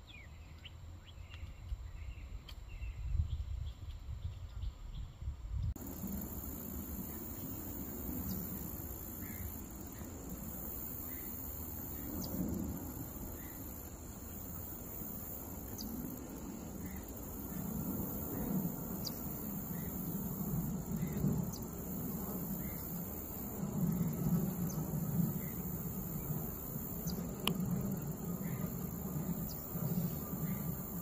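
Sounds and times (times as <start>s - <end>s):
high insect drone: 5.8s - 31.0s.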